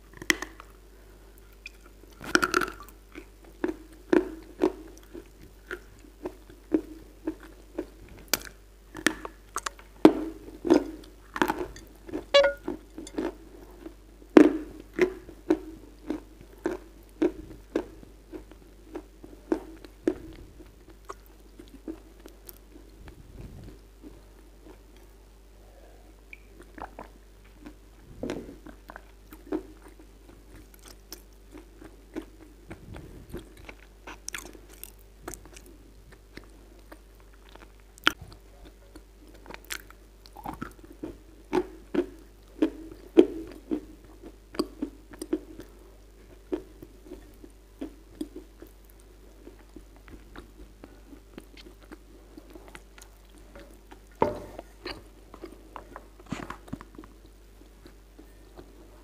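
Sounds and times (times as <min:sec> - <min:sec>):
faint steady hum: 0:00.0 - 0:59.0
chewing and crunching clay: 0:00.1 - 0:25.1, 0:26.3 - 0:59.0.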